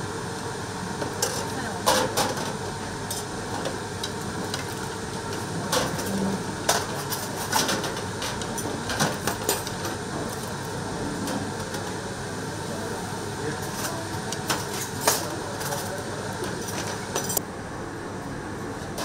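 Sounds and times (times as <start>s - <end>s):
room noise hum: 0.0s - 19.0s.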